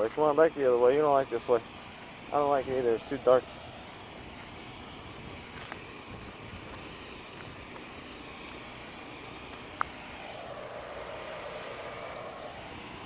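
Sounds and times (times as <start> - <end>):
generators droning: 0.0 - 13.0.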